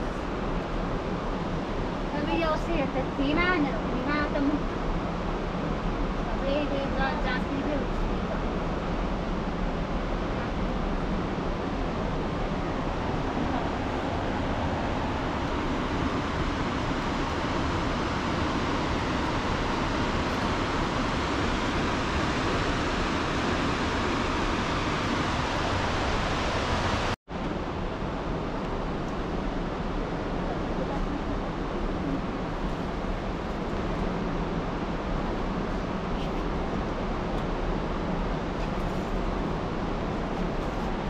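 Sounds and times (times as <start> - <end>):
open-air ambience rushing noise: 0.0 - 41.0.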